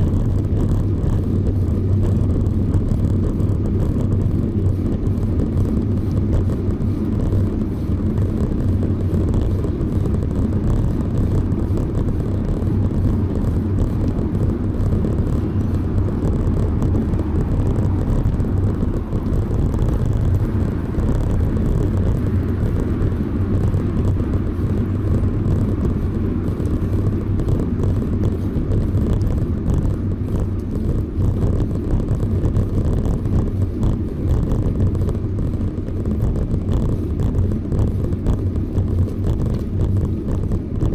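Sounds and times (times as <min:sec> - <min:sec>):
bicycle road and wind noise: 0:00.0 - 0:40.9.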